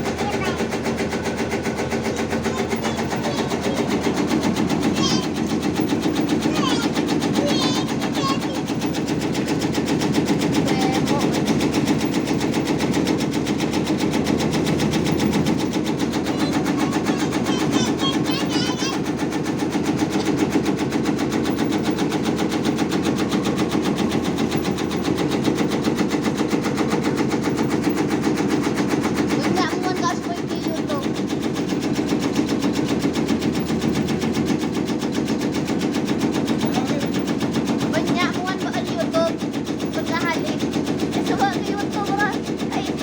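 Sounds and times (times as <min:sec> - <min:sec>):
slicing machine chopping: 0:00.0 - 0:43.0.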